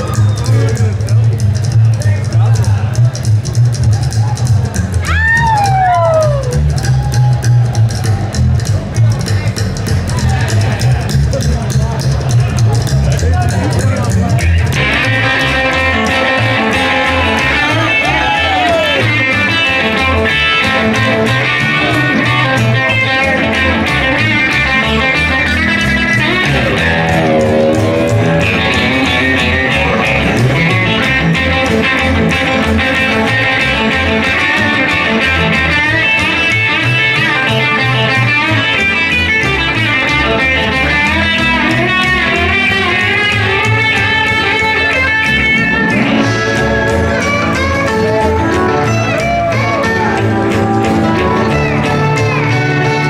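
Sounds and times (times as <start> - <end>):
rockabilly band playing: 0.0 - 53.0
electric guitar bent note: 6.5 - 53.0.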